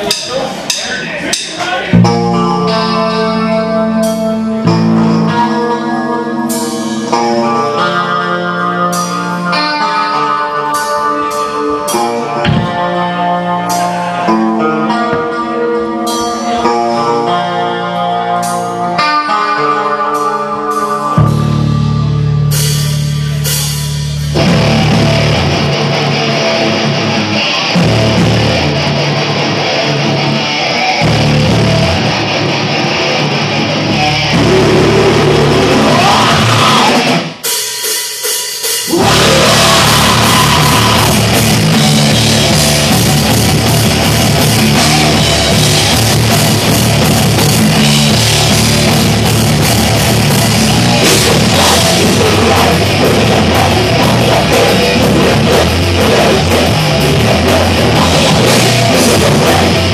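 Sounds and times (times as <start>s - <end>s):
rock band with drums: 0.0s - 59.9s
electric guitar melody: 1.8s - 37.7s, 38.7s - 59.9s.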